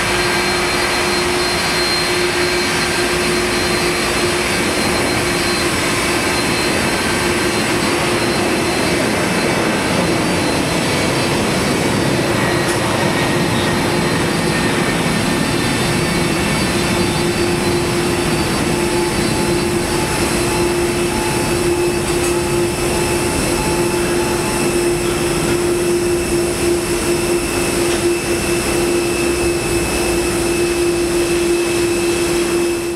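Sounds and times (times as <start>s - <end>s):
jet engines idling: 0.0s - 32.9s.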